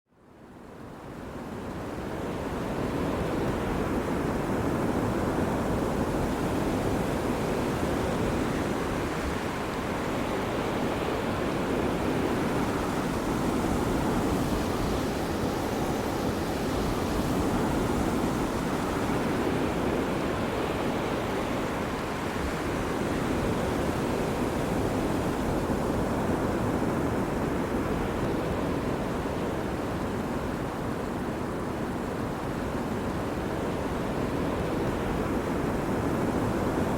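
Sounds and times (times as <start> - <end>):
waves breaking on a beach: 0.2 - 36.9.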